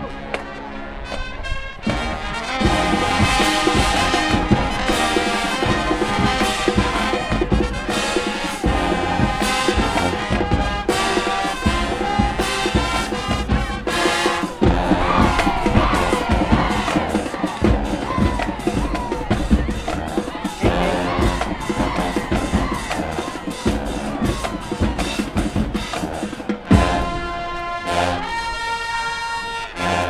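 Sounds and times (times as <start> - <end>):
marching band playing: 0.0 - 30.0.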